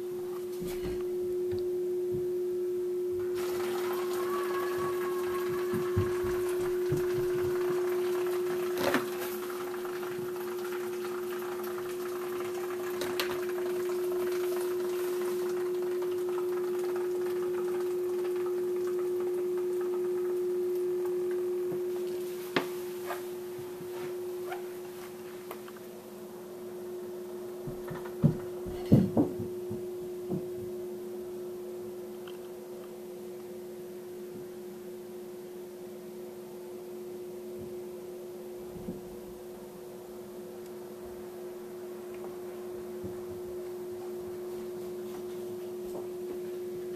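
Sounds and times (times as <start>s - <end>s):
aquarium pumps humming: 0.0s - 46.9s.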